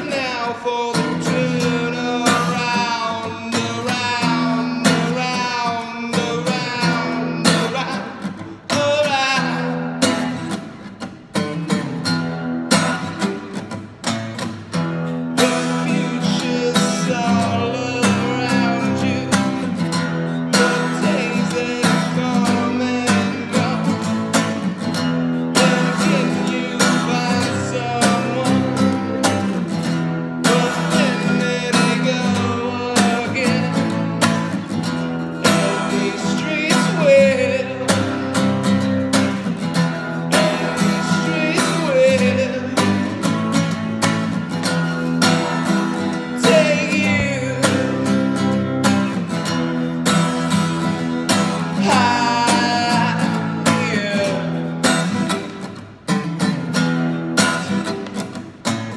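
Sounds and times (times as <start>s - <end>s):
man singing: 0.0s - 10.8s, 14.6s - 55.7s
acoustic guitar strumming: 0.0s - 58.9s.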